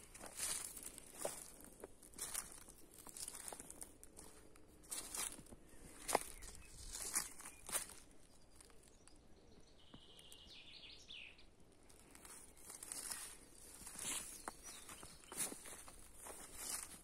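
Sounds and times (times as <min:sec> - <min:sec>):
footsteps on forest floor: 0:00.0 - 0:09.0, 0:11.9 - 0:17.0.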